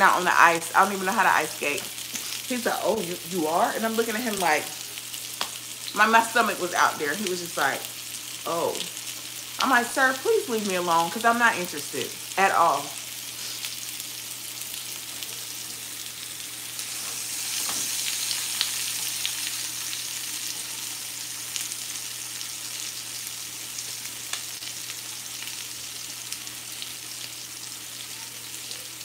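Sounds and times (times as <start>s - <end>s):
chicken sizzling in a pan: 0.0s - 29.0s.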